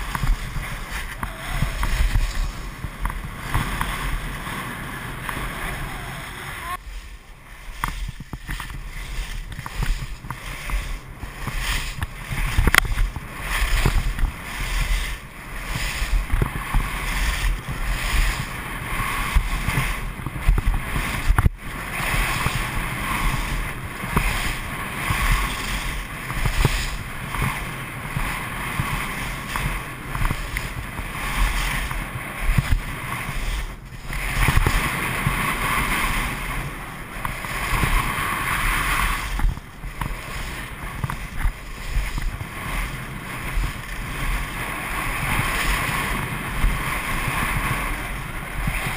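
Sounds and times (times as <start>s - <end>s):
skis scraping on snow: 0.0s - 48.9s
wind buffeting microphone: 0.0s - 48.9s.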